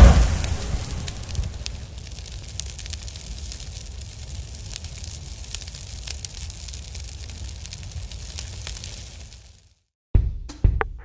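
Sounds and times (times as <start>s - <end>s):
fire rumbling: 0.0s - 9.8s
fire crackling: 0.0s - 9.9s.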